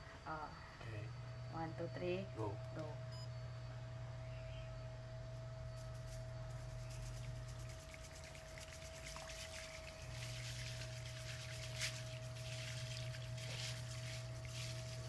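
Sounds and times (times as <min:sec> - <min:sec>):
thin steady tone: 0:00.2 - 0:15.0.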